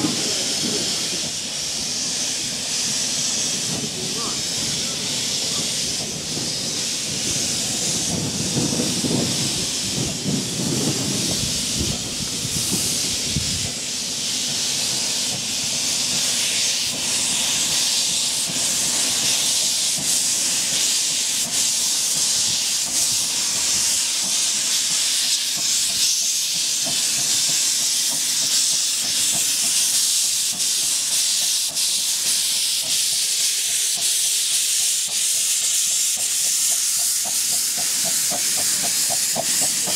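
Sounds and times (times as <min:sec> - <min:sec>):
steam hissing from locomotive: 0:00.0 - 0:39.9.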